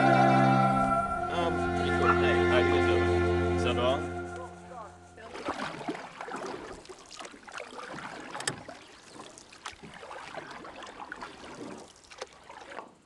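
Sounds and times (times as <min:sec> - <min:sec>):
paddles splashing water: 0:01.4 - 0:13.0.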